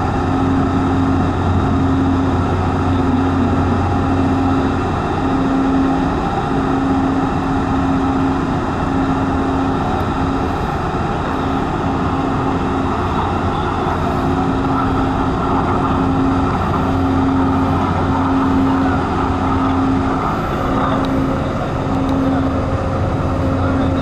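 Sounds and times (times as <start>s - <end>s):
humming tone: 0.0s - 24.0s
ship engines droning: 0.0s - 24.0s.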